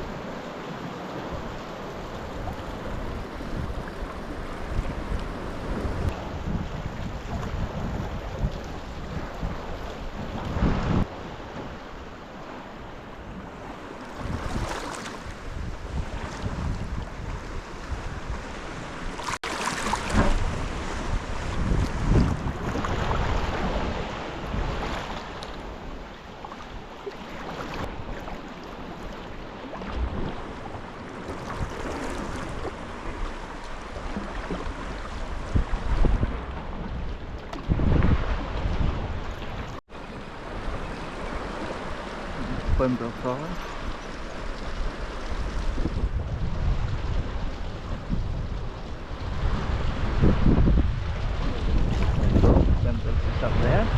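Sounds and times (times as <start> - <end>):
sea water lapping and splashing: 0.0 - 53.9
wind buffeting microphone: 1.2 - 12.2, 12.8 - 26.1, 29.7 - 53.9.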